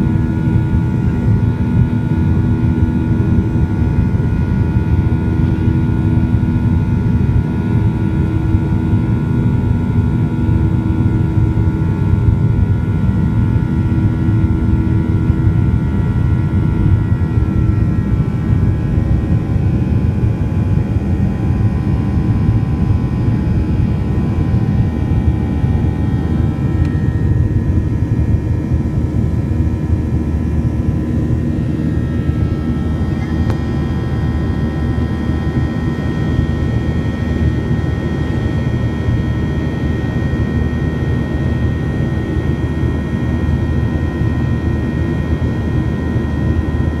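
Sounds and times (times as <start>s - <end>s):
airliner engines rumbling: 0.0s - 47.0s.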